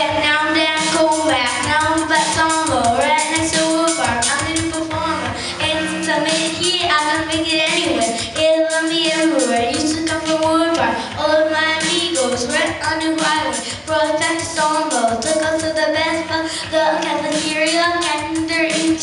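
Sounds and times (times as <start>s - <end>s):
high voice singing: 0.0s - 12.6s, 14.3s - 19.0s
backing music with beat: 0.0s - 19.0s.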